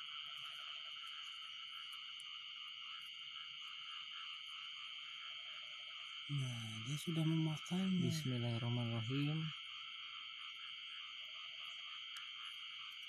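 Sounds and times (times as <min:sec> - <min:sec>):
frogs and insects trilling: 0:00.0 - 0:13.0.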